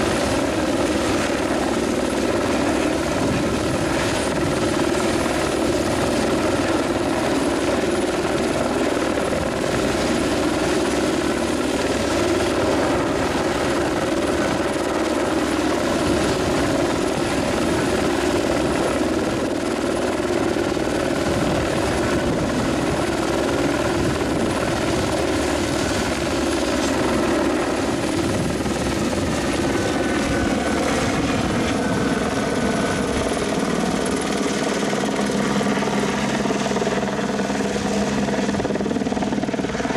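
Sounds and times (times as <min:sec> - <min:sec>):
helicopter rotor beat: 0:00.0 - 0:39.9.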